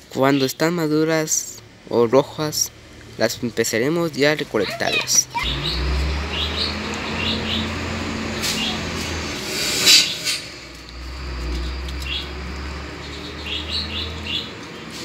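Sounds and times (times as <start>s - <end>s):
low steady rumble: 1.1s - 14.7s
small birds chirping: 1.4s - 15.0s
foliage rustling: 2.7s - 15.0s.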